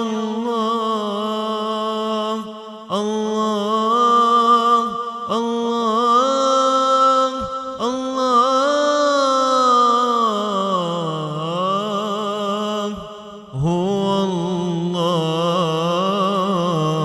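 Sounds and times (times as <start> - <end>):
person singing unaccompanied: 0.0 - 17.0.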